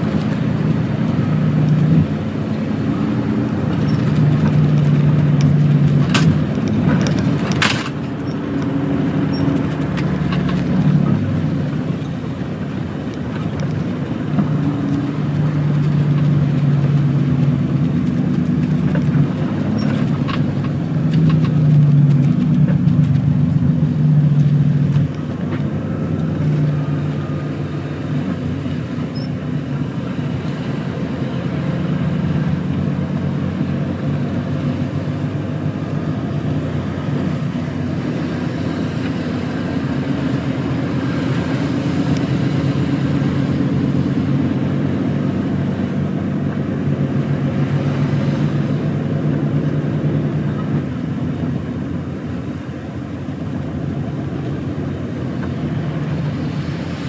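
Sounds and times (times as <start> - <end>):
truck diesel engine: 0.0 - 57.0
tyre and road noise: 0.0 - 57.0.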